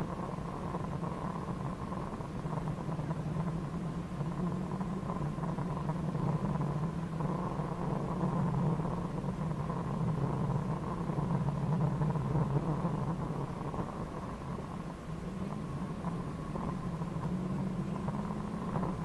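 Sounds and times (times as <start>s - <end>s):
rally car engine drone: 0.0s - 19.0s.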